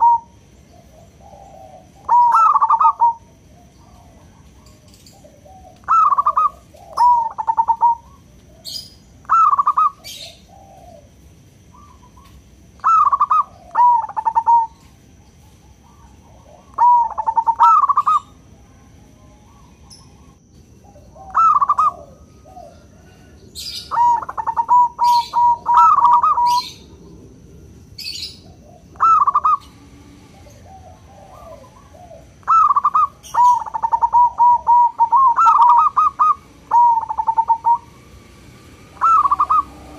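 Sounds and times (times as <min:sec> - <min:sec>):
high chirps: 0:00.0 - 0:10.6, 0:11.7 - 0:18.4, 0:23.6 - 0:27.2, 0:28.0 - 0:38.2, 0:38.9 - 0:39.9
doves cooing: 0:00.0 - 0:39.9.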